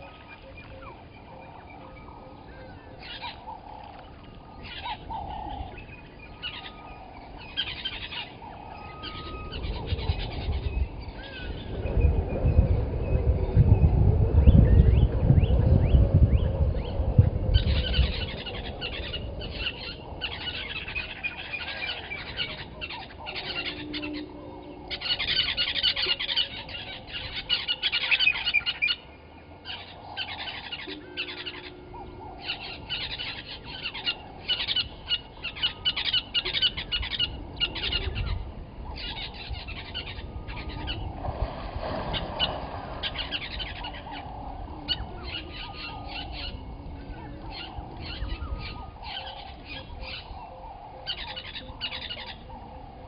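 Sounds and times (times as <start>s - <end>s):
birds chirping and calling: 0.0s - 53.0s.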